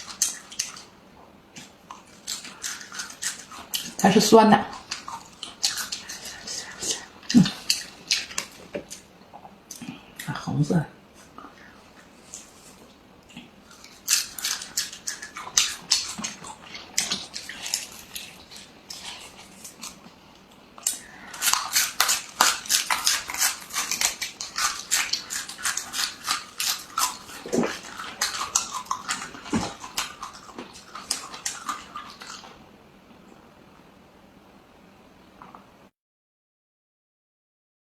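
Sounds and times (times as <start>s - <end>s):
person chewing crunchy food: 0.0s - 10.4s, 11.0s - 32.7s.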